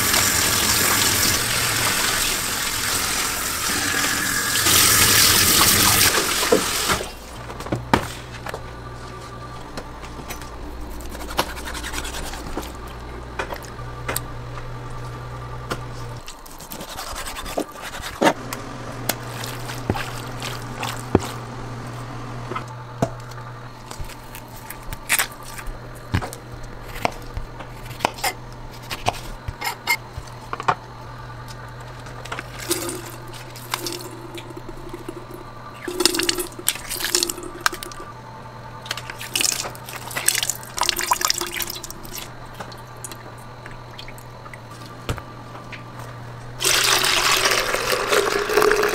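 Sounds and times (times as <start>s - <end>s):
equipment hum: 0.0s - 48.9s.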